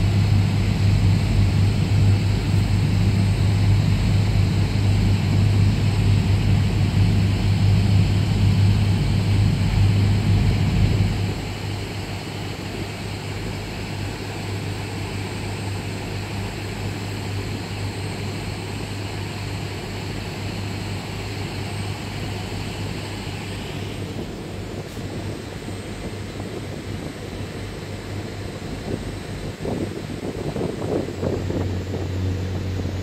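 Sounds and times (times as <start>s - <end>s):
ship engines droning: 0.0s - 33.0s
wind: 0.0s - 33.0s.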